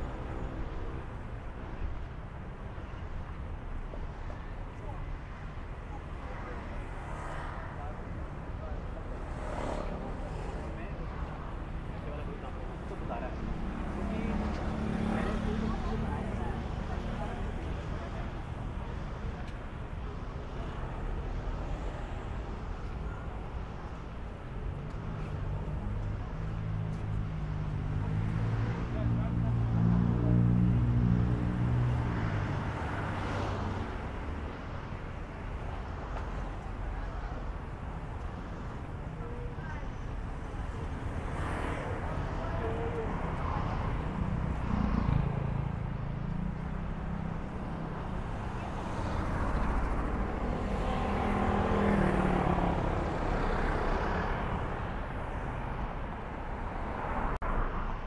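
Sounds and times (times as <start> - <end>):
street traffic passing: 0.0 - 58.0
people's voices: 4.2 - 57.3.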